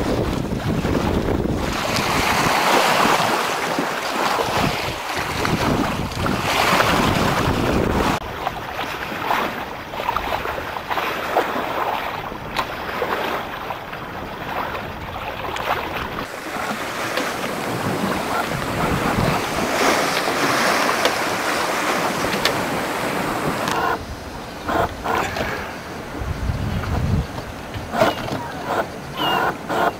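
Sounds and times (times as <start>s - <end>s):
water rushing along a hull: 0.0s - 29.9s
wind: 0.0s - 29.9s.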